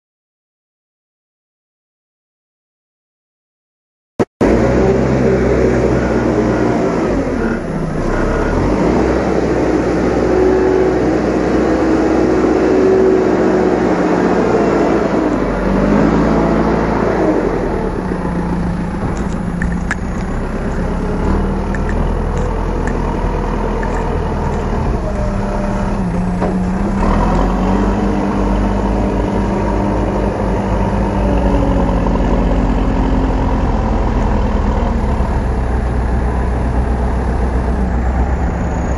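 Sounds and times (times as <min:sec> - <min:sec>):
backhoe diesel engine under load: 0:04.4 - 0:38.9.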